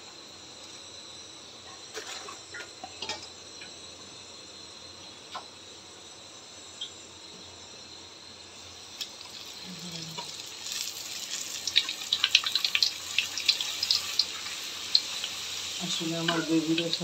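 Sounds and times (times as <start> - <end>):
dough deep-frying in hot oil: 0.0 - 17.0.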